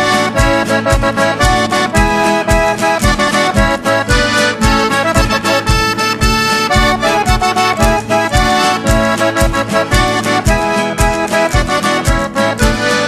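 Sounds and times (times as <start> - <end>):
accordions playing melody: 0.0 - 13.0.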